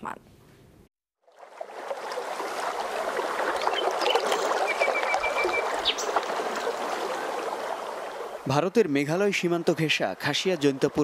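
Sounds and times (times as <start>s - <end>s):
water rushing along boat hull: 1.2s - 11.0s.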